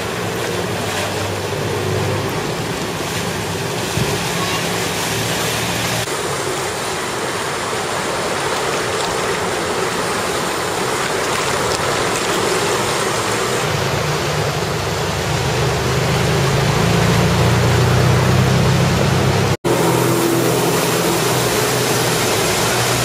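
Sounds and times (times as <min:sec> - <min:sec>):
floodwater rushing: 0:00.0 - 0:23.0
vehicle engine rumble: 0:00.0 - 0:23.0.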